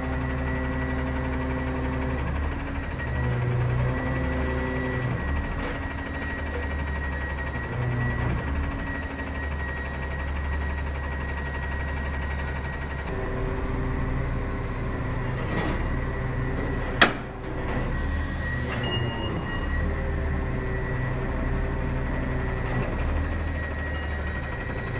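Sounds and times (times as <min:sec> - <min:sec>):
truck diesel engine running: 0:00.0 - 0:24.9.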